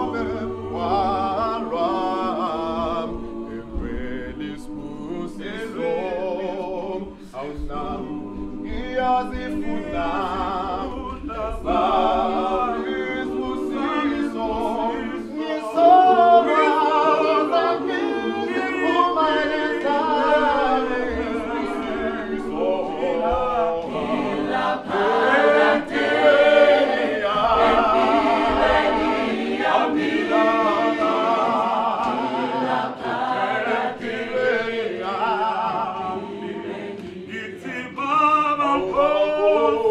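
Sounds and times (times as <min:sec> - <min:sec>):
a cappella choir singing: 0:00.0 - 0:39.9.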